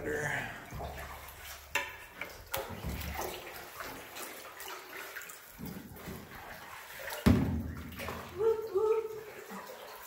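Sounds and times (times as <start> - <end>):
paddles splashing in water: 0.6 - 10.0.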